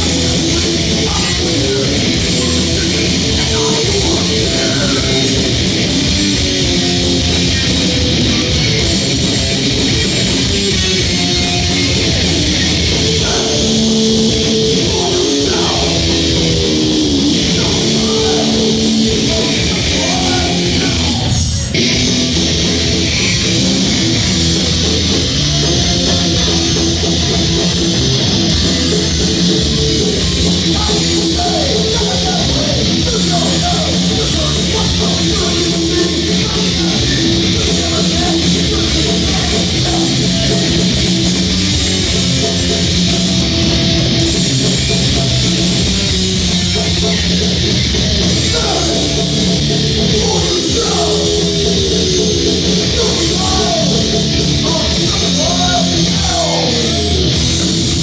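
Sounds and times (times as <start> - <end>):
guitar line with bending notes: 0.0 - 58.0
thrash metal band playing: 0.0 - 58.0.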